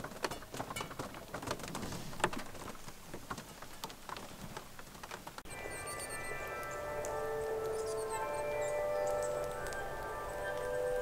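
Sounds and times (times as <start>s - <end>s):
rain pattering on a campervan: 0.0s - 5.5s, 6.2s - 11.0s.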